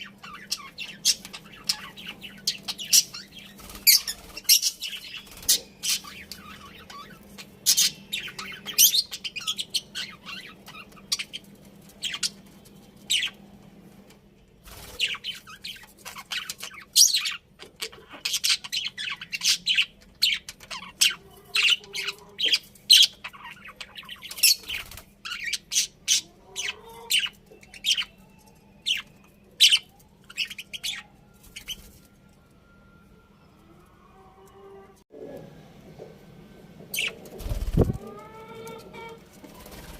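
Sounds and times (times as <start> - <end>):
budgerigars chirping and squawking: 0.0 - 12.5, 13.1 - 13.4, 14.8 - 28.2, 28.9 - 31.9, 36.9 - 39.9.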